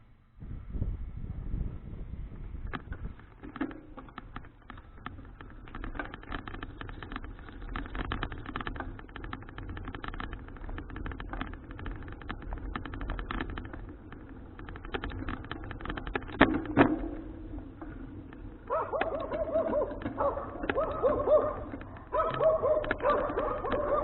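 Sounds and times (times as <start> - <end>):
wind: 0.0 - 24.0
tyres rumbling: 1.7 - 24.0
bicycle clicking and rattling: 1.8 - 24.0.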